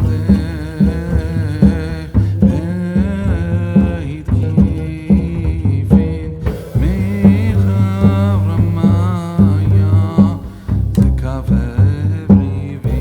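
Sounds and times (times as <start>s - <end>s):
song with bass and drums: 0.0s - 13.0s.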